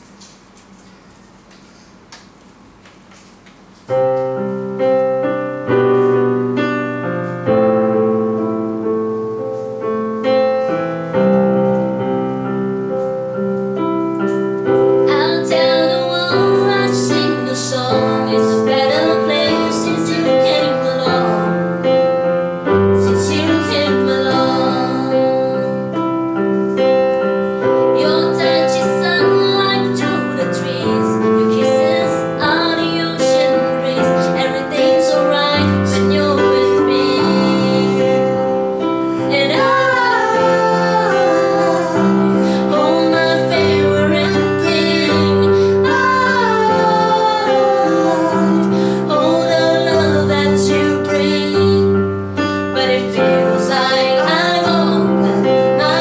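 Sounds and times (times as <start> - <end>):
keyboard playing piano chords: 3.9 - 56.0.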